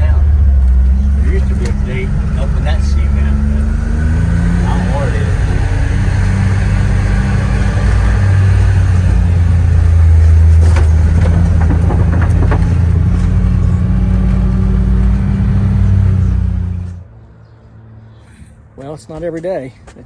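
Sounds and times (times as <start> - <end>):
farm vehicle engine humming: 0.0 - 20.0.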